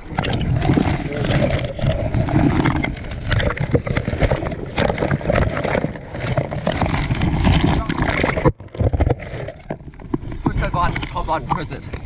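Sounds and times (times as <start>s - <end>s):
underwater water churning: 0.0s - 12.0s.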